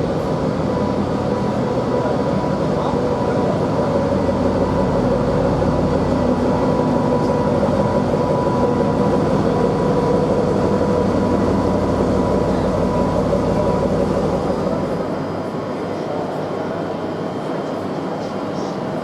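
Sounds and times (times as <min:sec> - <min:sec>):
diesel railcar engine humming: 0:00.0 - 0:19.0.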